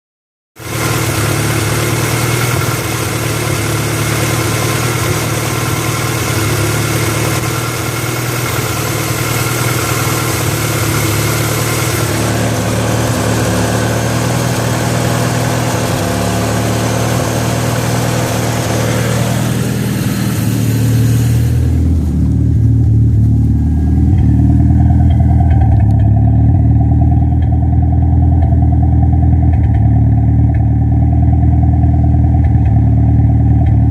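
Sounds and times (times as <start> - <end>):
car engine misfiring: 0.6 - 33.9.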